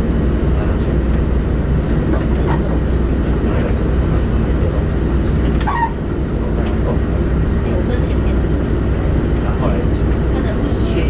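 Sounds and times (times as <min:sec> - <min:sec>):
railcar engine drone: 0:00.0 - 0:11.0.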